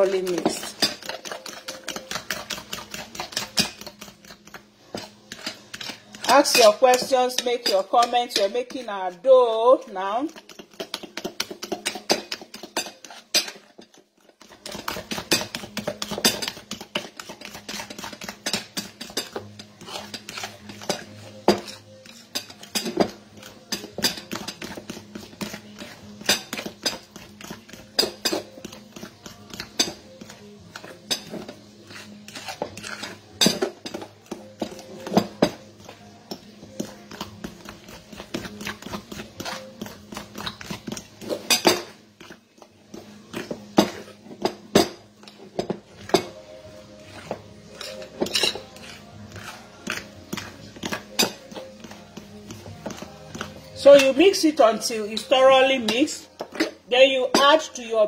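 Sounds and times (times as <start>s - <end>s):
fork scraping glass bowl: 0.0s - 57.6s.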